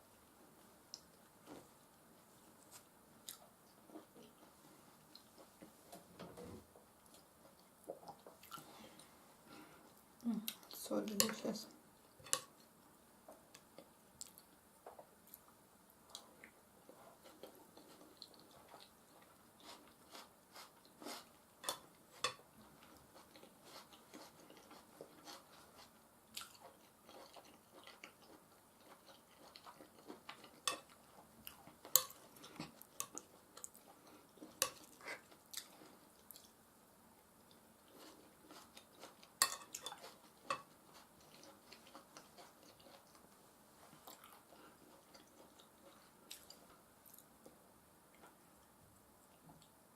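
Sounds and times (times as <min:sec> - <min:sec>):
chewing soft food: 0:07.0 - 0:10.8, 0:12.0 - 0:36.6, 0:37.2 - 0:49.8.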